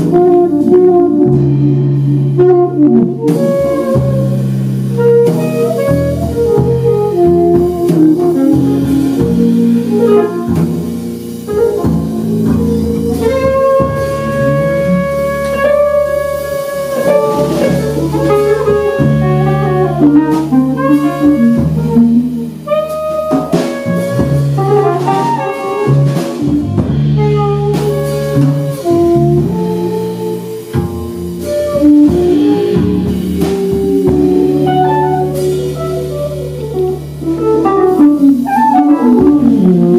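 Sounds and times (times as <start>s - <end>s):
double bass: 0.0s - 39.9s
drum kit: 0.0s - 39.9s
saxophone: 0.0s - 39.9s.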